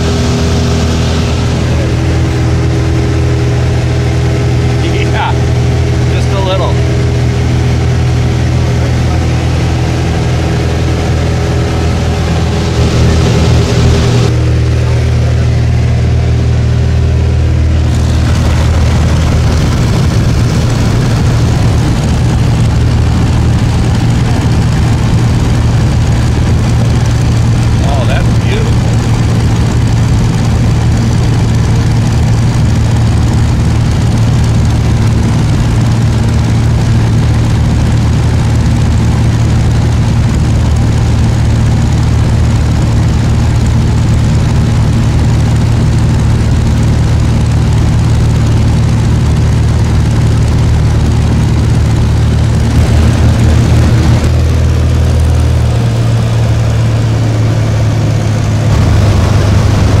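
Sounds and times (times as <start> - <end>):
propeller plane engine droning: 0.0 - 60.0.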